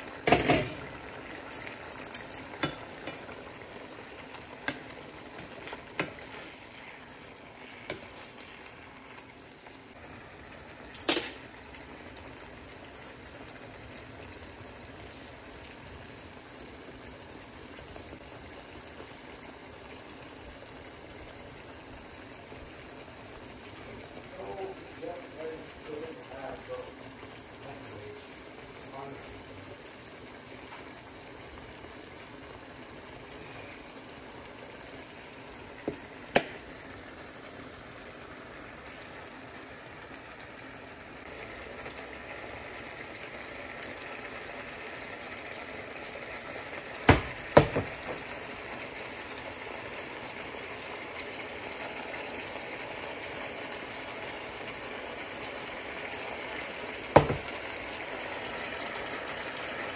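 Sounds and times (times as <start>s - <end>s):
fish sizzling in butter: 0.0s - 59.9s.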